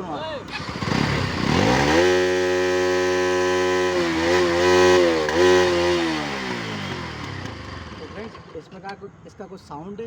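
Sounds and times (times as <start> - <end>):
motorcycle engine revving: 0.4 - 8.6.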